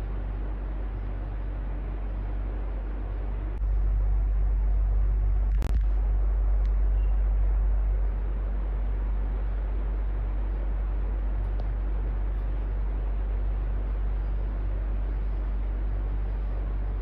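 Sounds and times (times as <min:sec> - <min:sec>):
electric fan humming: 0:00.0 - 0:17.0.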